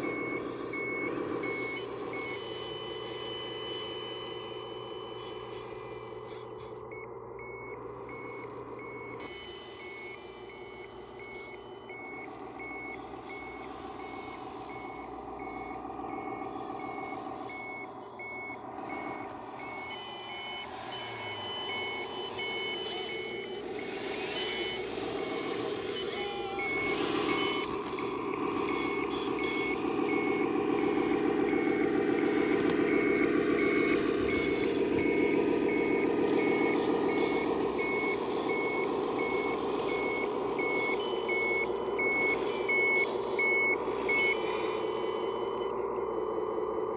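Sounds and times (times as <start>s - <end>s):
backup beeper beeping: 0.0s - 46.9s.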